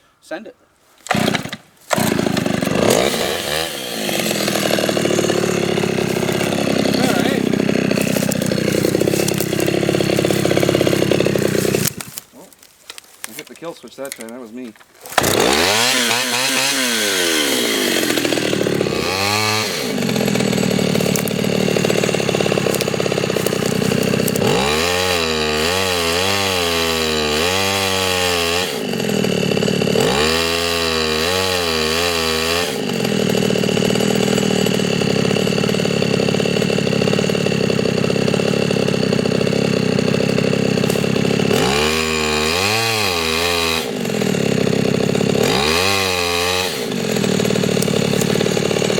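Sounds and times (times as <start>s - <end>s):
chainsaw cutting wood: 1.0s - 48.9s.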